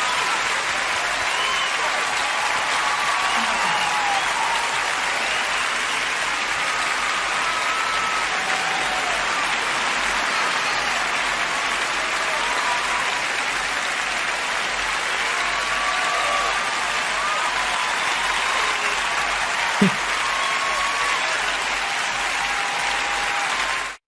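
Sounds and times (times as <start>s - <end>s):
audience clapping: 0.0s - 24.0s
people cheering: 0.0s - 24.0s.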